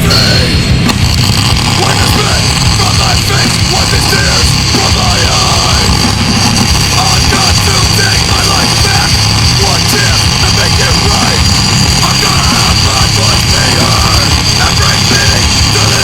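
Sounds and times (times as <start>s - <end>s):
loud heavy metal music: 0.0s - 16.0s.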